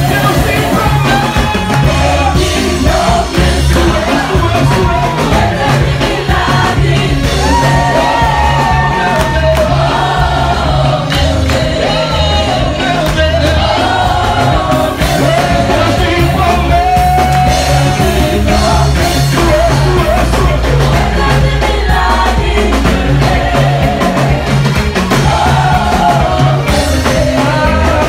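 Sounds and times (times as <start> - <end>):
drum kit: 0.0 - 28.0
keyboard: 0.0 - 28.0
women singing gospel: 0.0 - 28.0.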